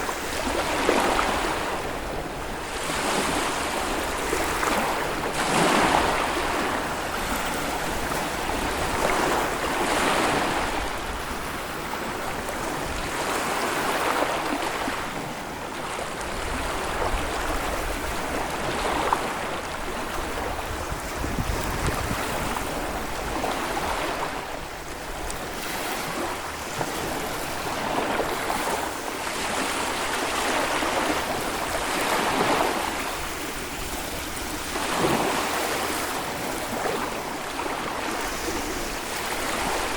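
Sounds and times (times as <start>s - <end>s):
small waves on sandy beach: 0.0s - 39.9s.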